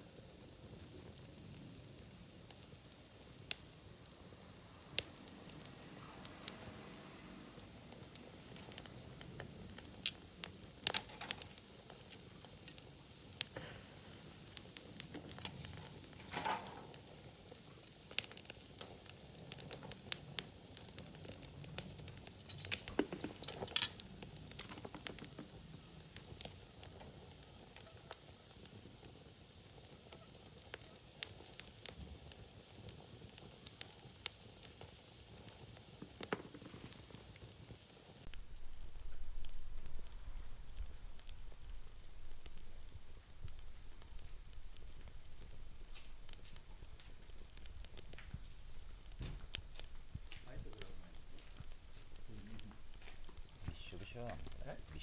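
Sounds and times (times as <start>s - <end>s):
low hiss: 0.0s - 55.0s
wood fire crackling: 0.0s - 55.0s.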